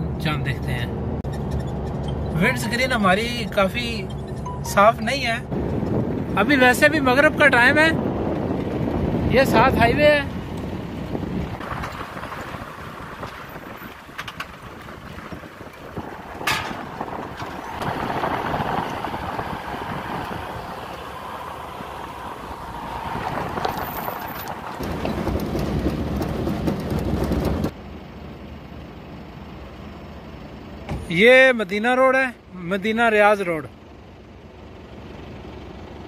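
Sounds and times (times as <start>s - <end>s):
car driving on dirt track: 0.0s - 36.0s.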